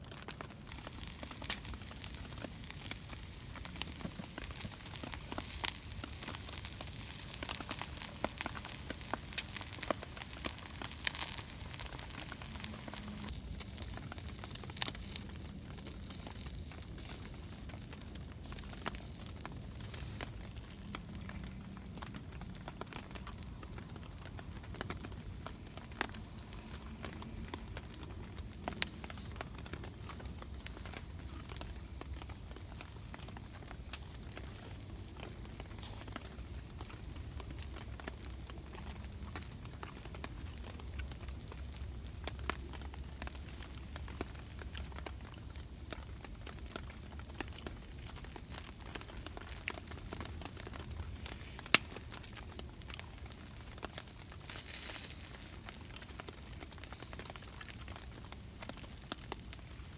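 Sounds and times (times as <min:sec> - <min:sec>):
campfire crackling: 0:00.0 - 0:59.9
rain pattering: 0:00.0 - 0:59.9.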